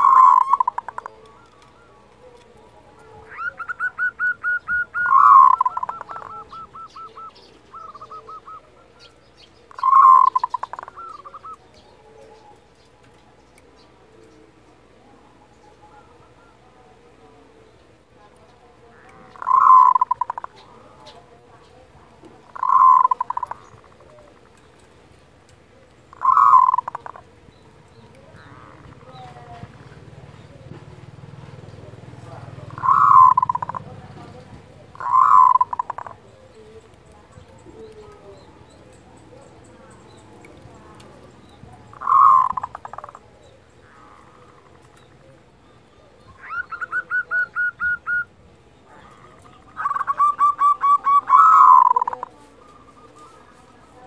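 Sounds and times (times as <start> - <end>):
zebra dove call: 0.0 - 24.6, 25.8 - 54.0.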